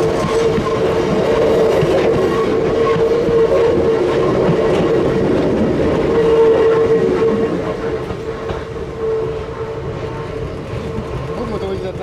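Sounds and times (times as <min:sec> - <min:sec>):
electric train running past: 0:00.0 - 0:12.0
wheels rumbling on track: 0:00.0 - 0:12.0.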